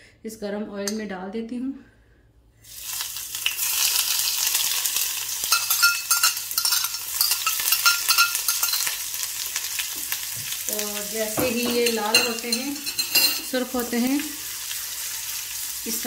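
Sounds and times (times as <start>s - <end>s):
spices sizzling in hot oil: 2.6s - 16.0s.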